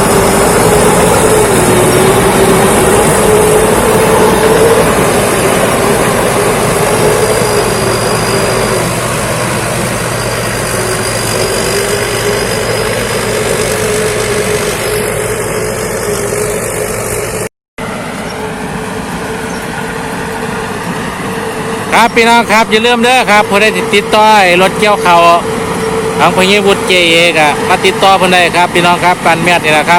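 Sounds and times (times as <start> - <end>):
combine harvester droning: 0.0 - 29.9.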